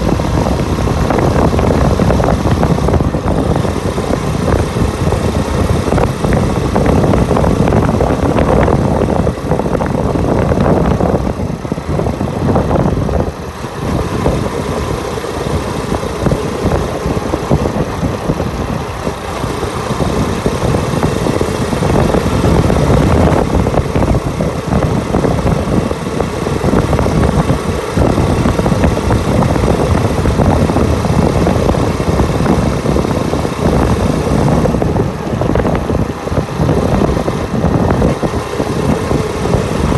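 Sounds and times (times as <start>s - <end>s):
motorbike engine running: 0.0s - 39.9s
wind buffeting microphone: 0.0s - 39.9s.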